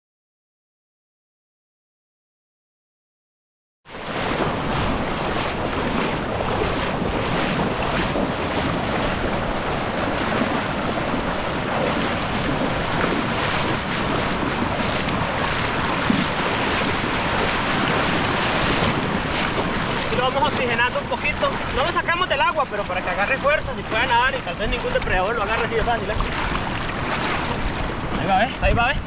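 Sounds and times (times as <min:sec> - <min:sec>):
surf breaking in shallows: 0:03.9 - 0:29.0
wind rumbling on microphone: 0:03.9 - 0:29.0.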